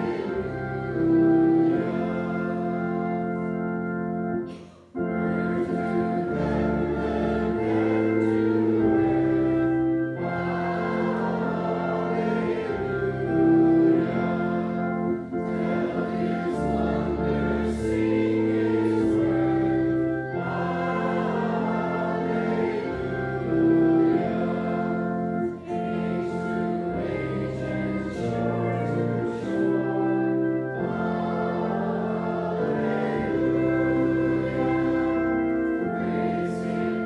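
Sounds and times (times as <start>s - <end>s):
congregation singing a hymn: 0.0s - 37.0s
organ chords: 0.0s - 37.0s.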